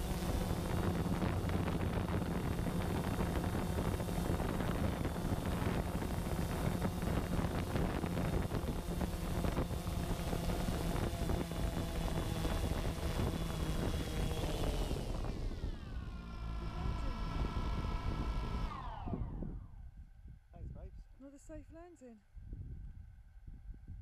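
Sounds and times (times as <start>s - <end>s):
drone propellers humming: 0.0s - 20.2s
wind buffeting microphone: 0.0s - 21.0s, 22.3s - 24.0s.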